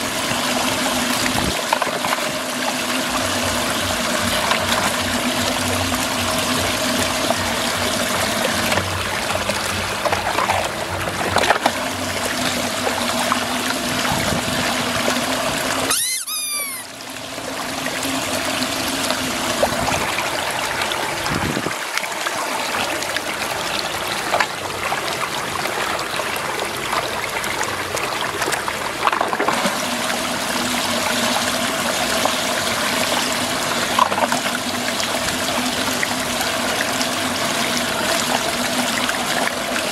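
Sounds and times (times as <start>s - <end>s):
water swirling and draining: 0.0s - 39.9s.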